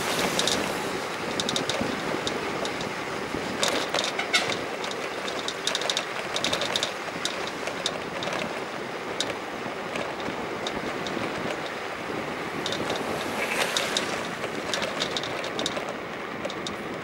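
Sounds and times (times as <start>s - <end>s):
raindrops clicking on hard surface: 0.0s - 17.0s
steady rain: 0.0s - 17.0s.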